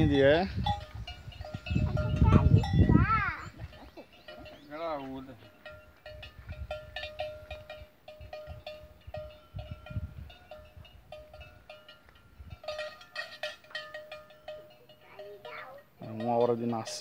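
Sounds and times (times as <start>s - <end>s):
cowbell clanking: 0.0s - 17.0s.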